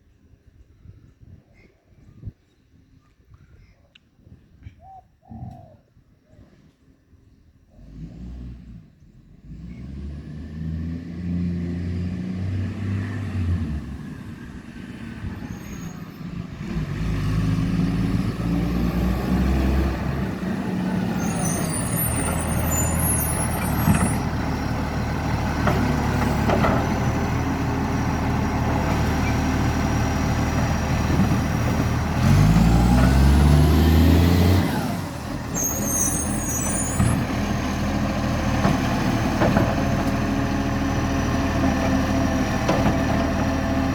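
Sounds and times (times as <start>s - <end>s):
diesel engine revving roughly: 7.8s - 43.9s.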